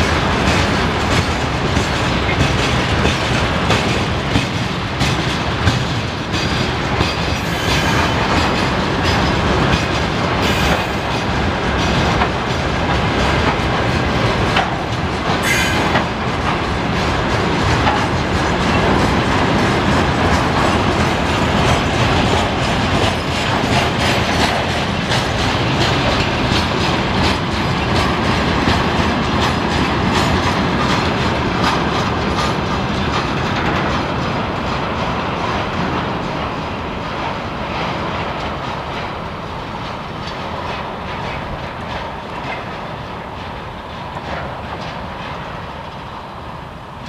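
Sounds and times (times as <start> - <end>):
freight train rumble: 0.0 - 47.0
train wheels clicking over rail joints: 0.0 - 47.0.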